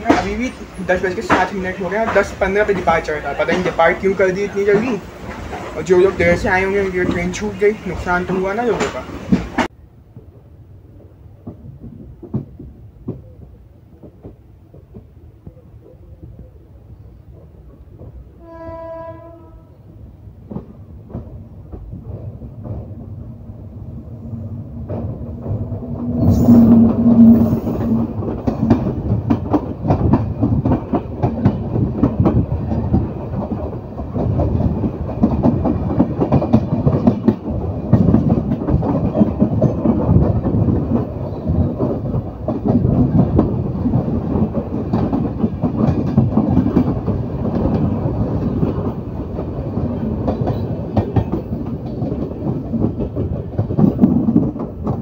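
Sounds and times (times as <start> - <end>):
wheels clattering over rails: 0.0 - 9.7, 20.4 - 55.0
train rumbling at speed: 0.0 - 55.0.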